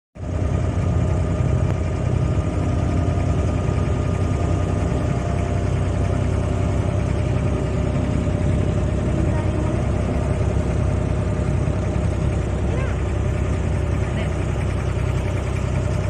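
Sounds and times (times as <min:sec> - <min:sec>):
boat diesel engine droning: 0:00.2 - 0:16.0.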